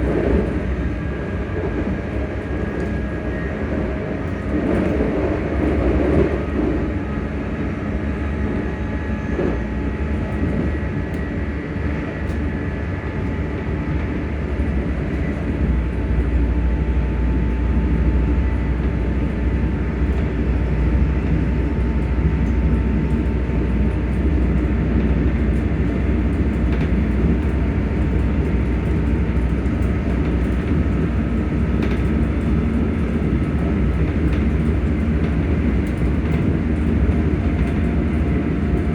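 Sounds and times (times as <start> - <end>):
traction motors humming: 0.0 - 38.9
train rumbling on rails: 0.0 - 38.9.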